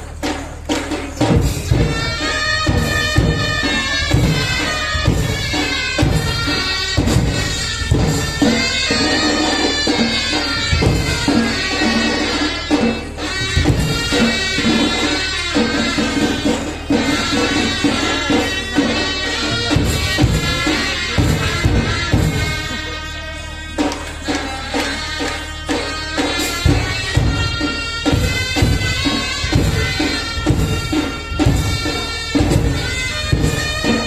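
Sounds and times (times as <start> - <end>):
heavy drum beats: 0.0 - 34.0
jingling percussion: 0.0 - 34.0.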